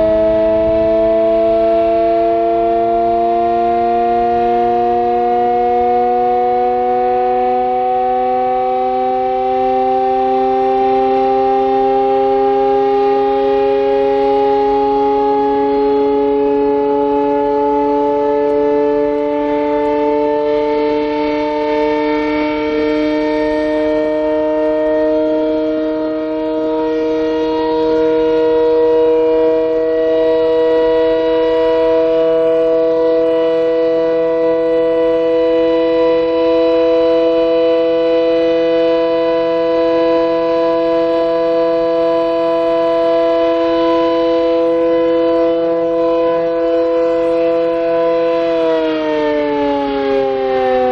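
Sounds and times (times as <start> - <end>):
air-raid siren wailing: 0.0 - 50.9.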